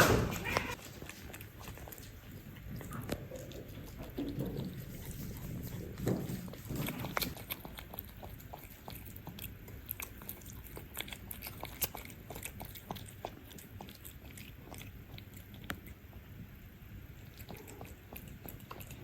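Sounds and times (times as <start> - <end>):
cats chewing and crunching: 0.0 - 19.0.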